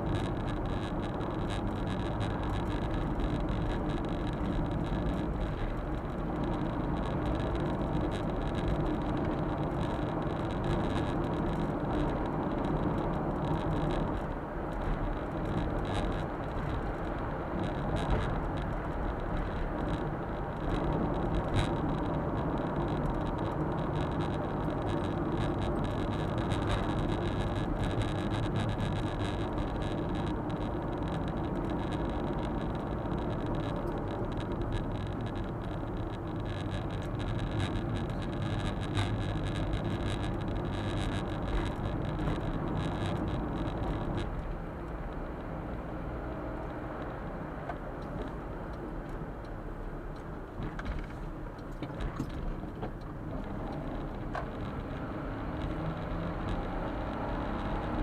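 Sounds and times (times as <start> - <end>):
engine and tyre drone: 0.0 - 58.0.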